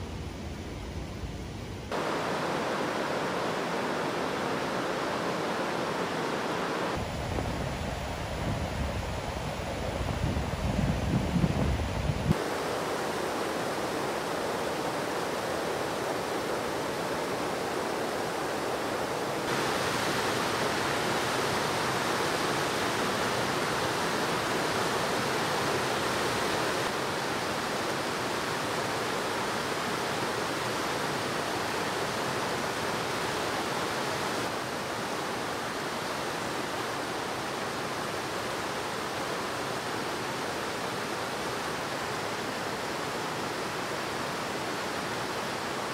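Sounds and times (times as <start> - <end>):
water rushing over rapids: 1.9 - 8.4, 12.3 - 45.9.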